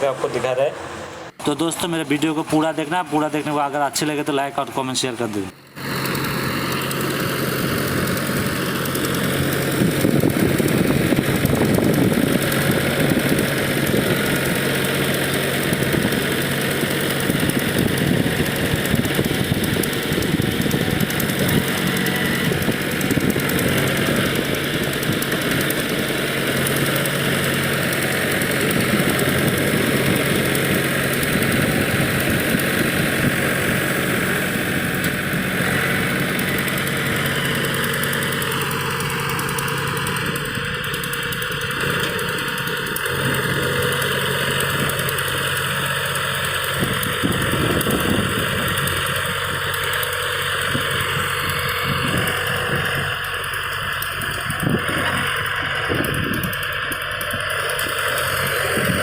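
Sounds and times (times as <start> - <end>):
rotavator churning: 0.0 - 59.0
tractor diesel engine running: 0.0 - 59.0.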